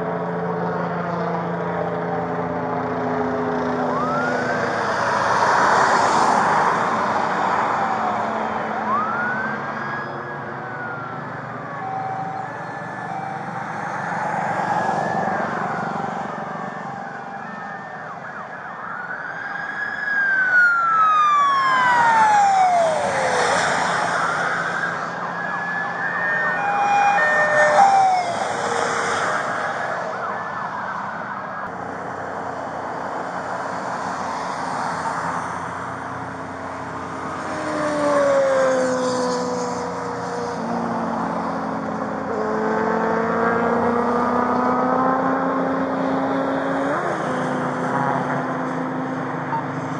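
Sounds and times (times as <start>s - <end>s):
police sirens wailing: 0.0s - 49.9s
vehicles passing: 0.0s - 49.9s.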